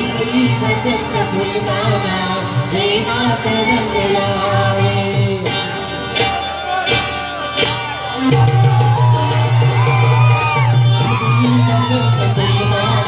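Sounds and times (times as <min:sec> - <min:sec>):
song with singing over fast beat: 0:00.0 - 0:13.0.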